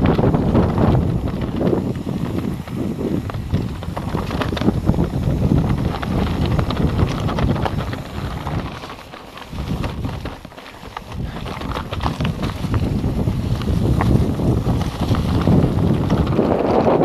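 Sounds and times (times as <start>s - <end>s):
bike rattling and clicking: 0.0s - 17.0s
wind buffeting the microphone: 0.0s - 17.0s
tyres crunching over stones: 0.2s - 16.4s.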